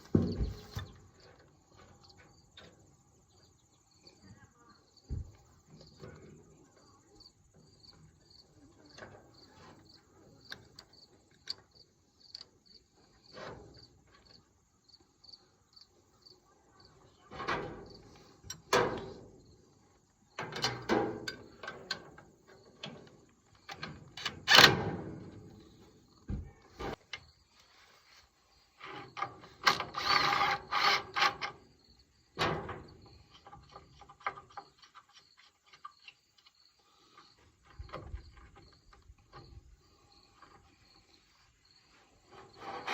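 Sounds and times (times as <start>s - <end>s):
crickets chirping: 0.1s - 24.2s, 25.1s - 42.9s.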